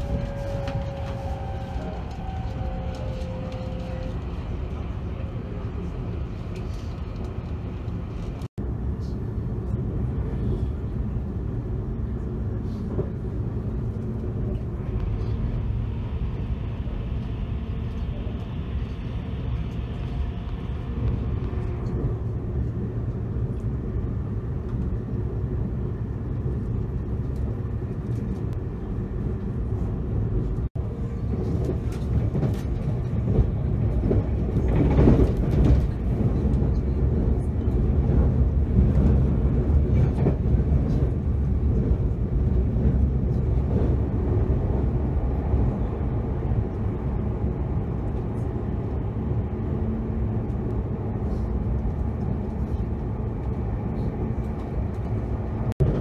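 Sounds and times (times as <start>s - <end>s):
train clattering through station: 0.0s - 56.0s
train wheels rumbling on rail: 0.0s - 56.0s.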